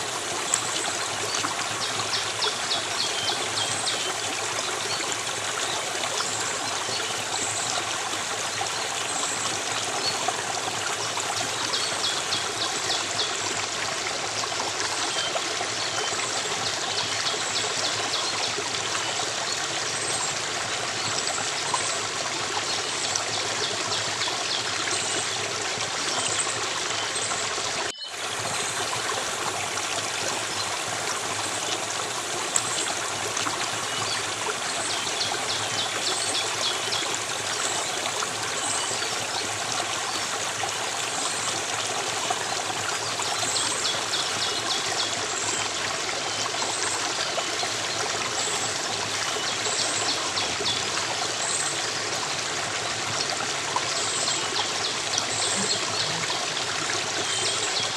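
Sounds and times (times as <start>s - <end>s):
stream water trickling and splashing: 0.0s - 57.9s.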